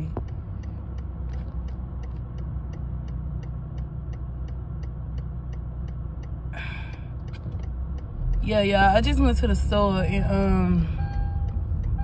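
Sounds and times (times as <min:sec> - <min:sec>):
car engine idling: 0:00.0 - 0:12.0
car indicator ticking: 0:00.0 - 0:12.0.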